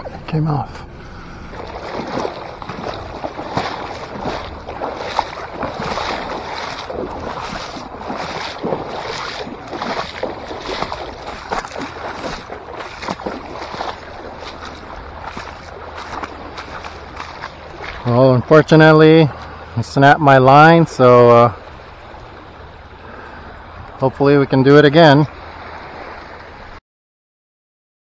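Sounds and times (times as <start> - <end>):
wading through shallow water: 0.0 - 26.8.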